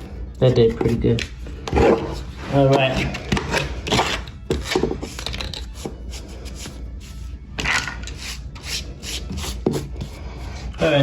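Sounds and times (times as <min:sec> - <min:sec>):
blade scraping caulk: 0:00.6 - 0:10.9.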